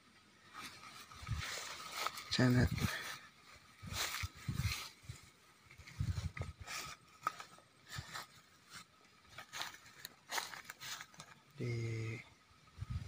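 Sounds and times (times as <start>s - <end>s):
footsteps through grass: 0.4s - 12.2s.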